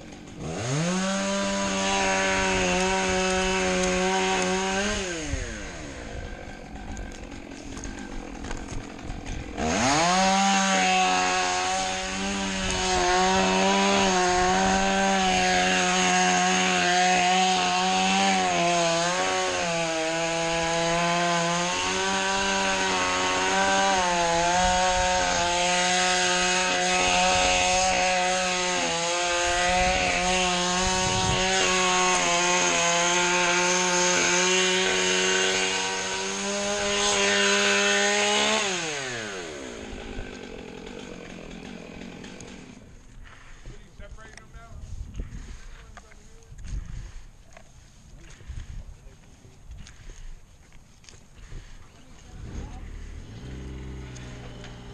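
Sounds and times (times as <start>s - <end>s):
chainsaw cutting tree trunk: 0.0s - 44.5s, 49.8s - 54.9s.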